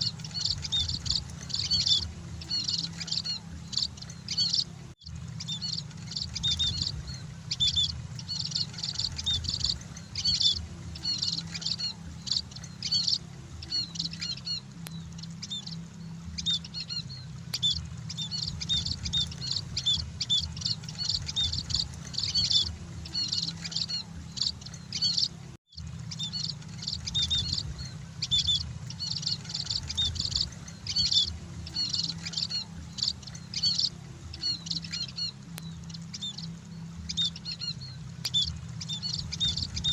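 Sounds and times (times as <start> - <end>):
low hum: 0.0 - 39.9
small birds chirping: 0.0 - 39.9.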